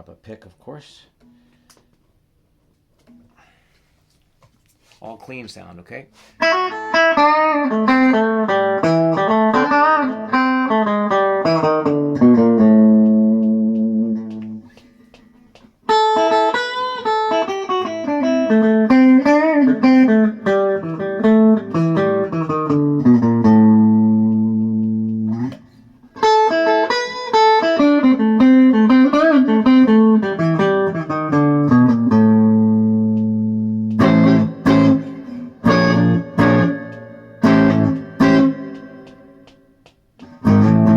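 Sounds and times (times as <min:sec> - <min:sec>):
electric guitar chords: 0:06.4 - 0:40.9.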